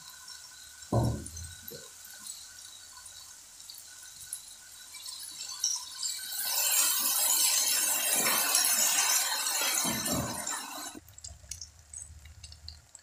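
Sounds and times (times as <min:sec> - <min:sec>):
fish cake sizzling in a wok: 0:00.0 - 0:13.0.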